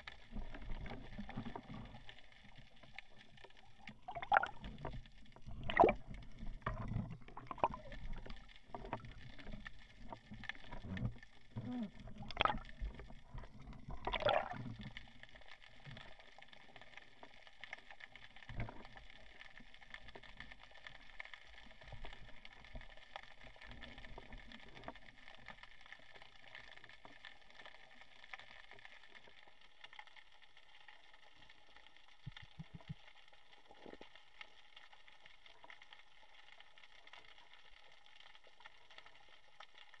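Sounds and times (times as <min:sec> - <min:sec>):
water splashing and bubbling: 0:00.0 - 0:40.0.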